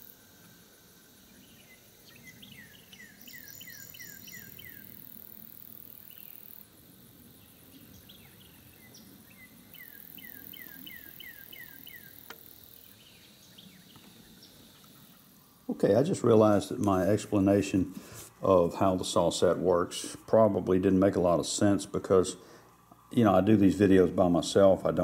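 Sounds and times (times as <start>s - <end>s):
high insect buzz: 0.0s - 25.0s.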